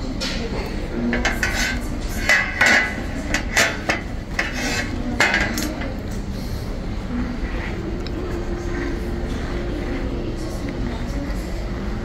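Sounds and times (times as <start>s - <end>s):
background hubbub: 0.0s - 12.0s.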